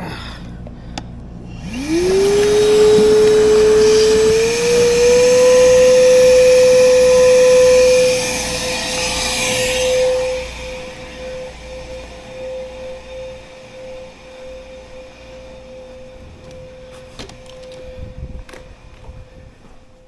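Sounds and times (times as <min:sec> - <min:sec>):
shop vacuum motor whining: 0:00.1 - 0:20.0.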